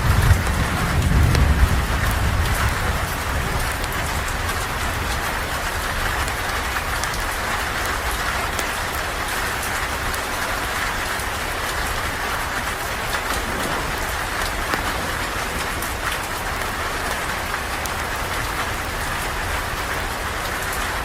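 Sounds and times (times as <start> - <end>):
rain on a porch roof: 0.0 - 21.0.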